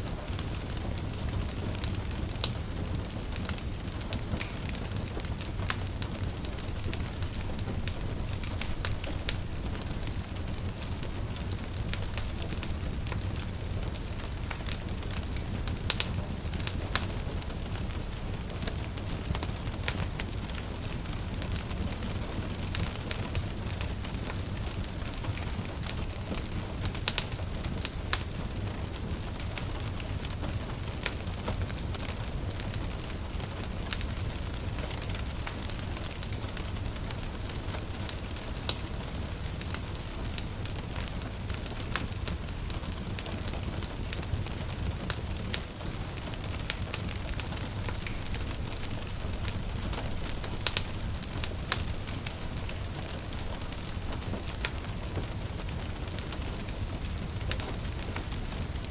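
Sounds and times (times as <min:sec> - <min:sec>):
gentle rain hissing: 0:00.0 - 0:58.9
wood fire crackling and popping: 0:00.0 - 0:58.9.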